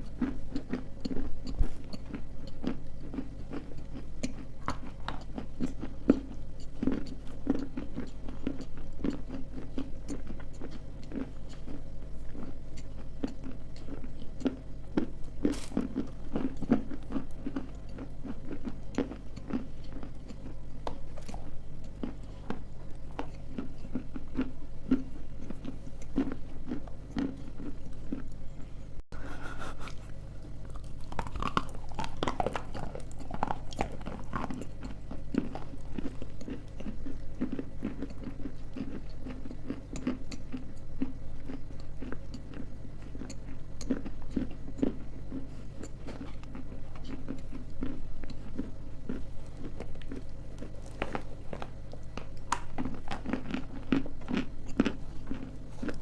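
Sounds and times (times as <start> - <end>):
crisp crunches of chewing clay: 0.0 - 56.0
steady low hum: 0.0 - 56.0.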